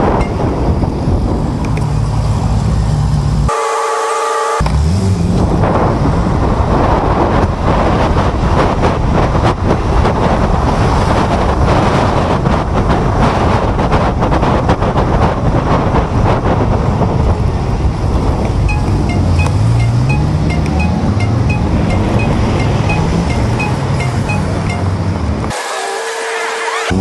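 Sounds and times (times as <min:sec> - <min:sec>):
wind buffeting microphone: 0:00.0 - 0:03.5, 0:04.6 - 0:25.6
road and traffic noise: 0:00.0 - 0:27.0.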